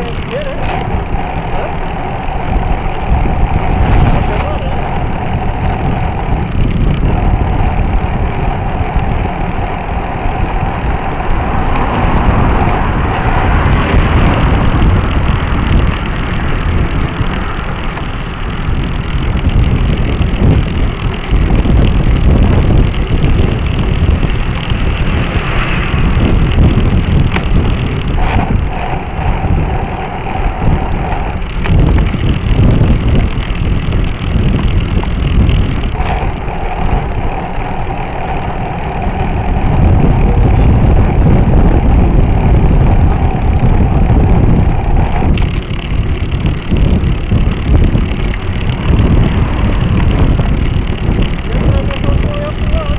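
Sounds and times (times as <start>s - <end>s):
bicycle tyre and drivetrain noise: 0.0s - 52.9s
steady whine: 0.0s - 52.9s
wind buffeting microphone: 0.0s - 52.9s.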